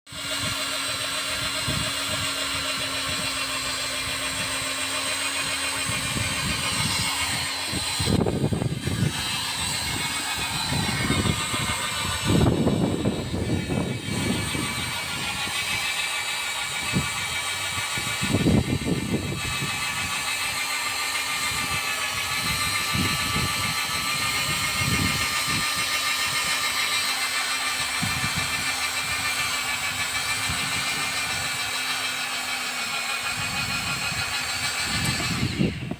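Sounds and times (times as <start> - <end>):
extrusion welder motor whine: 0.1 - 35.9
hiss of air: 1.5 - 32.4.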